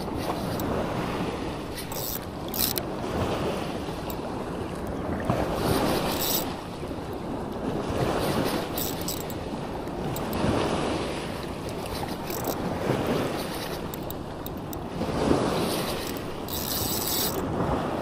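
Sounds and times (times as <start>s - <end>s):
ocean surf washing on beach: 0.0s - 18.0s
wind on microphone: 0.0s - 18.0s.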